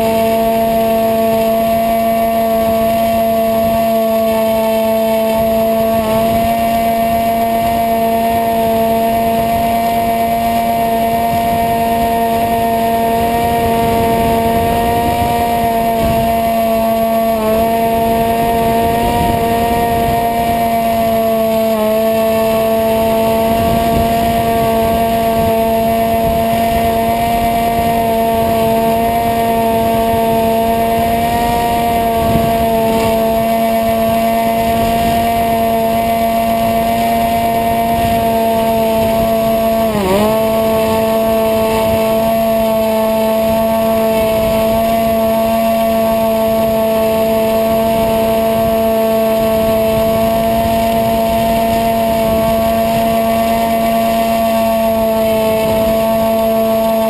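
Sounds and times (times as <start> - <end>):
electric motor and propeller whining: 0.0 - 57.0
wind buffeting microphone: 0.0 - 57.0.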